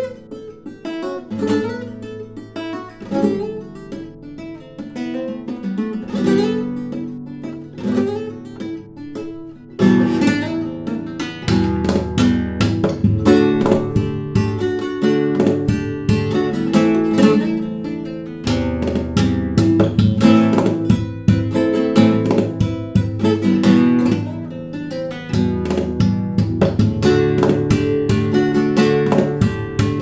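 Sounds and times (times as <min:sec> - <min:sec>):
acoustic guitar flamenco style: 0:00.0 - 0:30.0.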